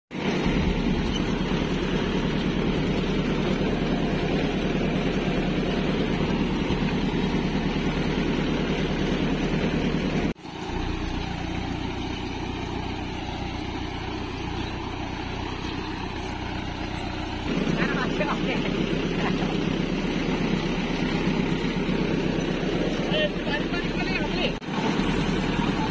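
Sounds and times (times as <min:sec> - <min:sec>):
tractor diesel engine running: 0:00.1 - 0:25.9.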